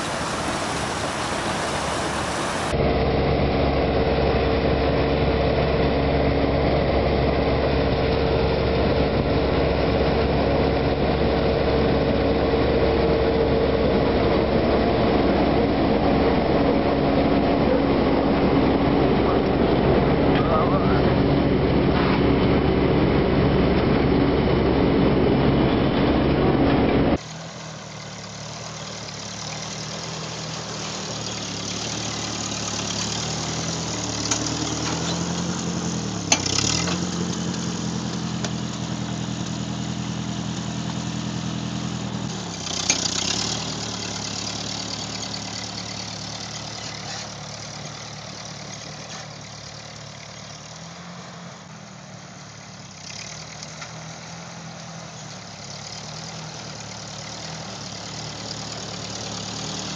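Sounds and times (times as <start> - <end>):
combine harvester running: 0.0 - 59.9
tractor engine under load: 0.0 - 59.9.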